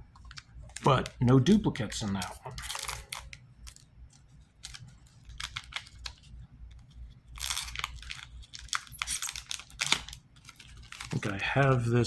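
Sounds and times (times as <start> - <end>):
cards being handled: 0.1 - 12.0
card pack wrapper crinkling: 0.2 - 12.0.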